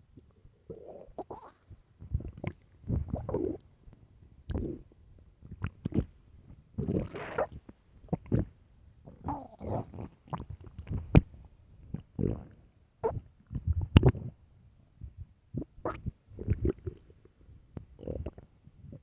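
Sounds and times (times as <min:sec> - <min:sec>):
stomach growling and gurgling: 0:00.2 - 0:03.7, 0:04.5 - 0:14.4, 0:15.0 - 0:19.0.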